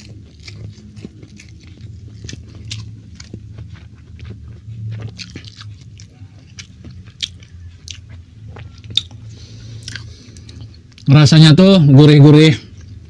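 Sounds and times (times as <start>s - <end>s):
man chewing food: 0.0s - 11.1s, 12.6s - 13.0s
low steady hum: 0.0s - 13.0s.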